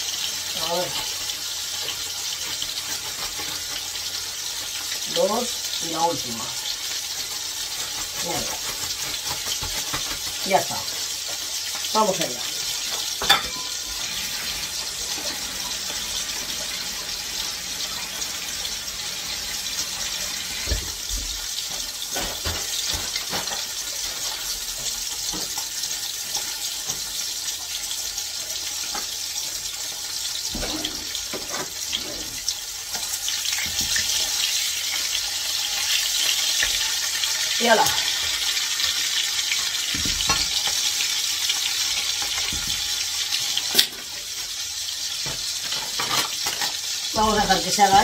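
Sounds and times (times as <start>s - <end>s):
fish frying in hot oil: 0.0s - 48.0s.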